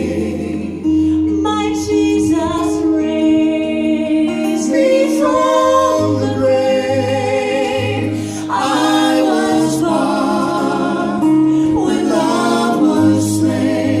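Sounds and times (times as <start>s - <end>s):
group singing in harmony: 0.0s - 14.0s
guitar accompaniment: 0.0s - 14.0s.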